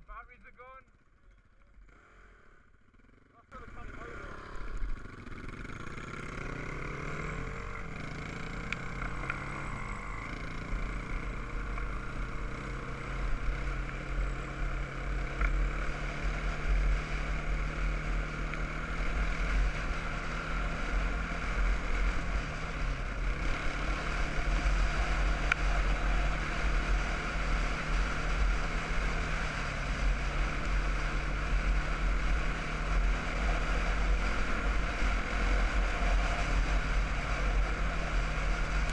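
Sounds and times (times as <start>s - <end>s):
quad bike engine: 0.0s - 38.9s.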